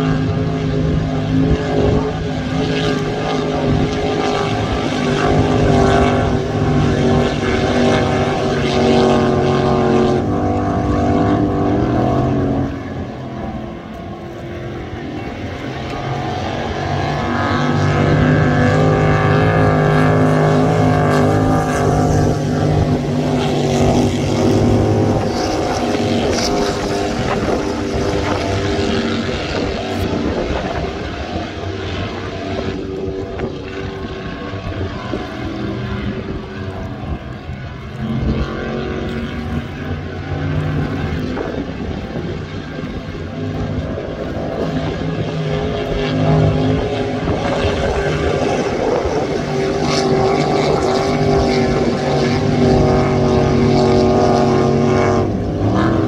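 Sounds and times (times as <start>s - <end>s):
powerboat engines droning: 0.0s - 56.0s.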